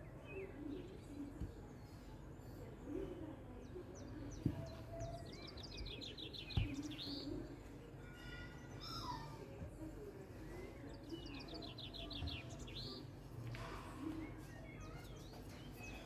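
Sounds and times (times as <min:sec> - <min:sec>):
birds chirping in trills: 0:00.0 - 0:16.0.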